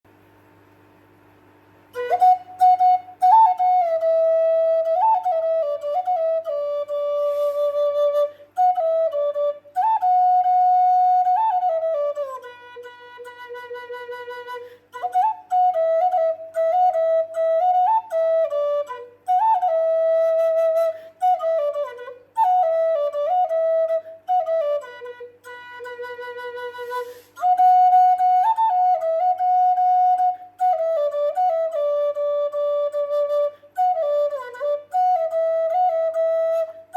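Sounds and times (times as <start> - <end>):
solo flute melody: 1.9 - 36.9.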